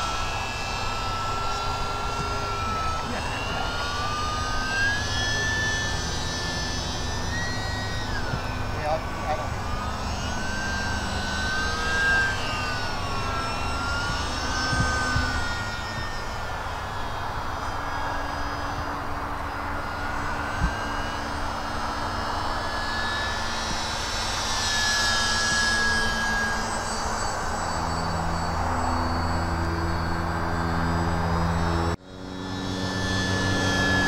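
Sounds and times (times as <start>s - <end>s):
model plane propeller engines: 0.0s - 34.0s.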